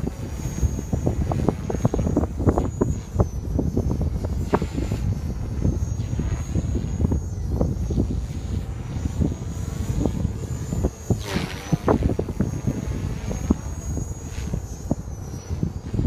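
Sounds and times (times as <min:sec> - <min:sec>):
rc helicopter whine: 0:00.0 - 0:16.0
wind buffeting microphone: 0:00.0 - 0:16.0.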